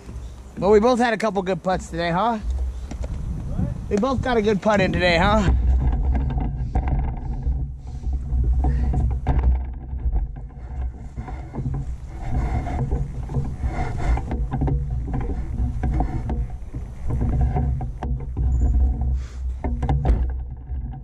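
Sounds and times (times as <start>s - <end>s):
wind rumble on microphone: 1.5s - 21.0s.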